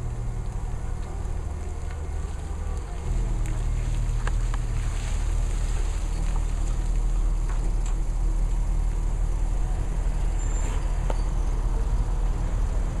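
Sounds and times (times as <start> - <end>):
forklift engine rumble: 0.0 - 13.0.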